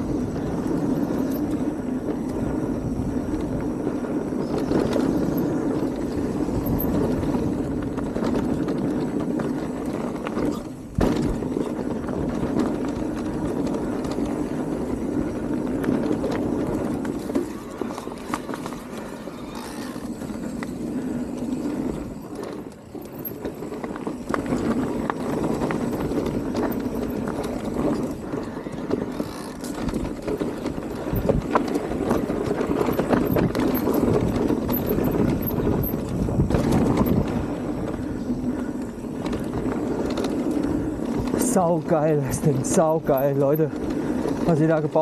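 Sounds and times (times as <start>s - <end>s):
tyres rolling on dirt trail: 0.0s - 45.0s
bike clattering over bumps: 0.1s - 45.0s.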